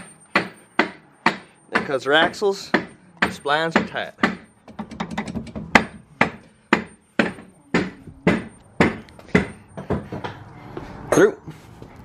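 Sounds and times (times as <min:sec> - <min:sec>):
hammer striking metal: 0:00.0 - 0:10.5.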